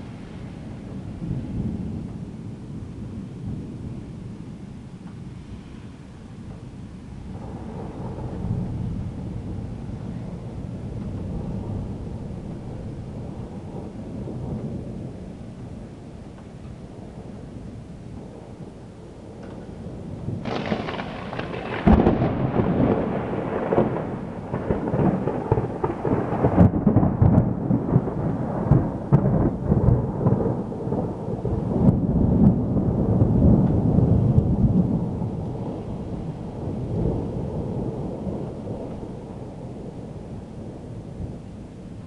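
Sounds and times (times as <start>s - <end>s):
rain falling: 0.0s - 42.0s
thunder rumbling and cracking: 0.0s - 42.0s.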